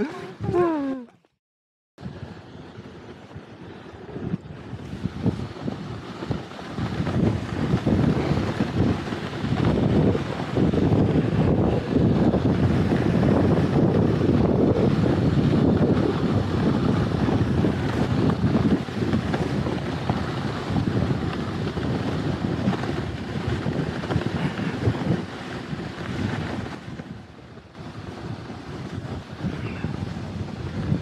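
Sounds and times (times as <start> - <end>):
wind buffeting microphone: 2.0 - 31.0.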